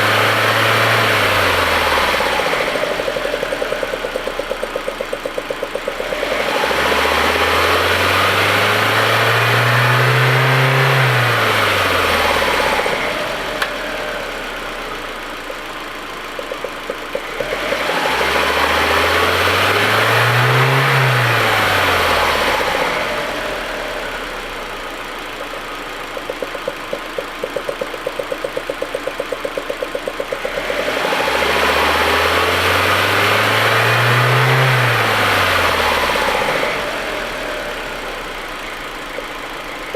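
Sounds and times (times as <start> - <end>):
engine idling roughly: 0.0 - 8.9, 10.0 - 39.9
car engine revving: 0.0 - 15.6, 16.2 - 39.9.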